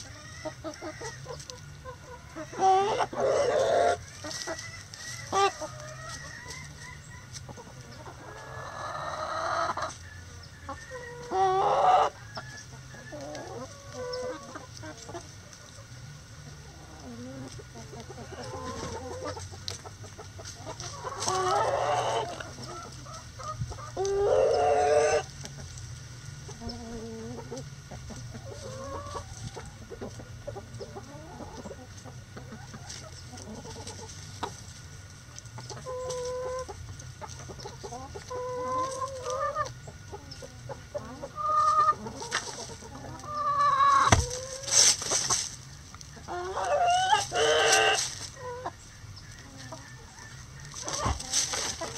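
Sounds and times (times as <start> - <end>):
chickens clucking: 0.0 - 51.9
loud drawn-out chicken calls: 0.0 - 51.9.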